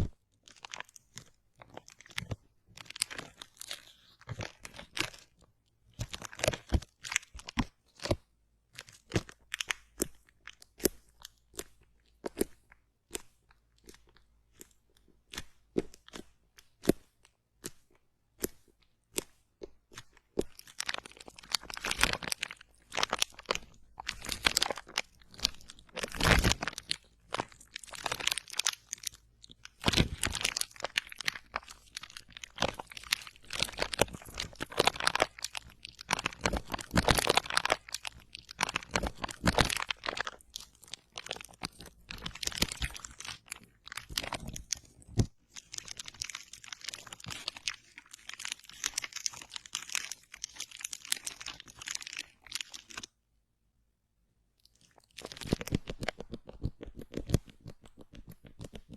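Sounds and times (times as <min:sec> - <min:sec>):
crunching and crackling: 0:00.0 - 0:53.1, 0:54.6 - 0:58.9.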